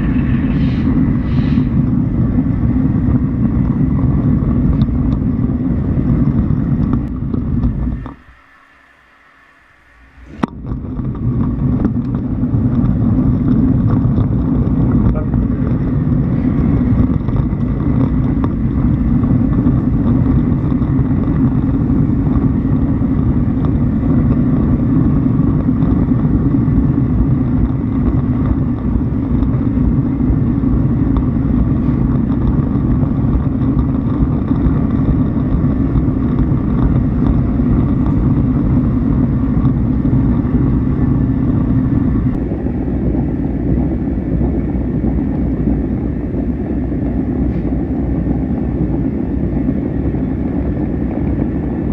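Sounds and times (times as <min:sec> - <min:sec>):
faint steady whine: 0:00.0 - 0:51.9
vehicle low rumble: 0:00.0 - 0:51.9.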